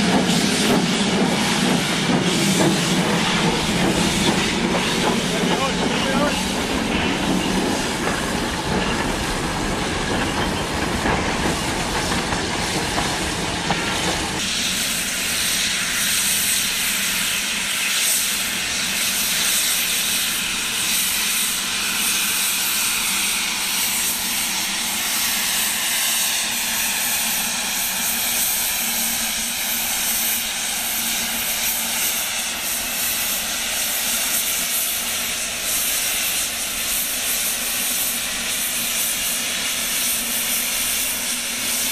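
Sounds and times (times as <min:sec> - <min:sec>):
steam hissing: 0:00.0 - 0:41.9
steam locomotive rumbling: 0:00.0 - 0:41.9.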